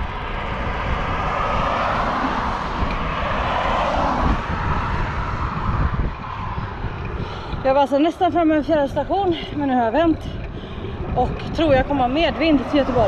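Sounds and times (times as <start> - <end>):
vehicle passing: 0.0 - 13.0
wind buffeting microphone: 0.0 - 13.0.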